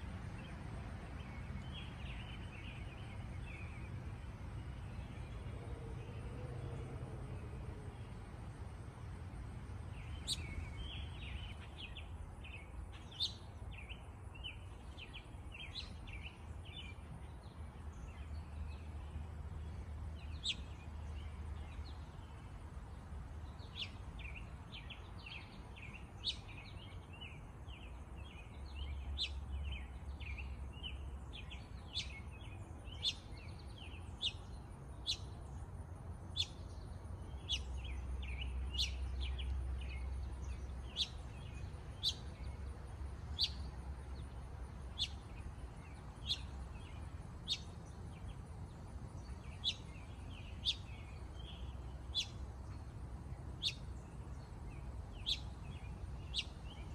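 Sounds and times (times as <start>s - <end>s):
low outdoor rumble: 0.0s - 56.9s
songbirds chirping and twittering: 0.0s - 56.9s.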